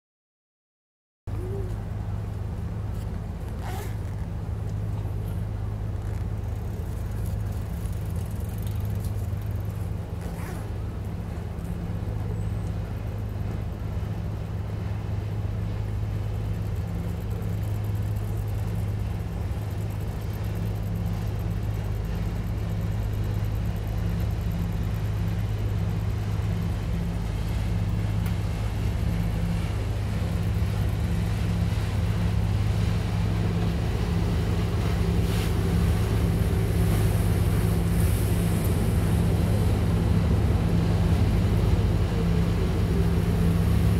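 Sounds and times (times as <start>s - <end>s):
boat engine drone: 1.3s - 43.9s.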